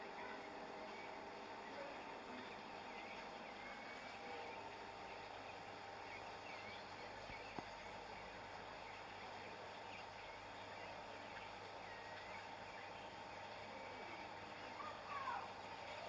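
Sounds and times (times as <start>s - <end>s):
steady hum and hiss: 0.0s - 16.0s.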